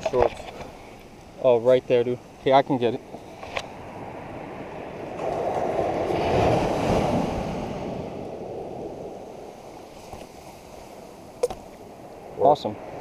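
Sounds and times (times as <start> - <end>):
surf washing up beach: 0.0 - 13.0.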